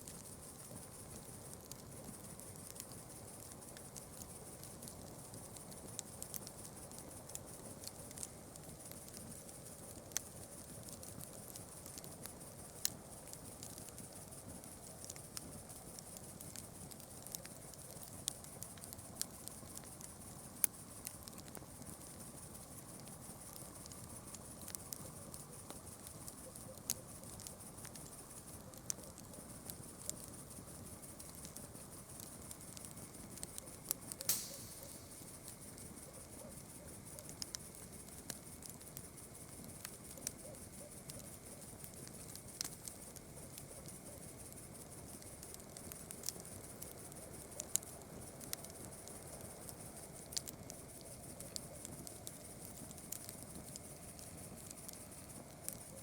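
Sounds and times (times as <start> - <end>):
burning wood popping: 0.0 - 56.0
faint high hiss: 0.0 - 56.0.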